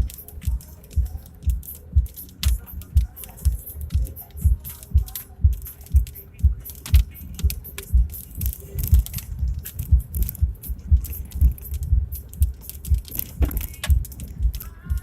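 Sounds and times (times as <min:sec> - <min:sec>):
loose things rattling: 0:00.0 - 0:15.0
low thumps from bumps: 0:00.0 - 0:15.0.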